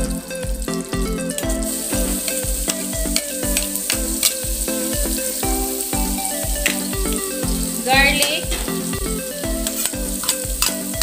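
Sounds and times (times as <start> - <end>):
background music with steady beat: 0.0 - 11.0
onion sizzling in a skillet: 1.3 - 11.0.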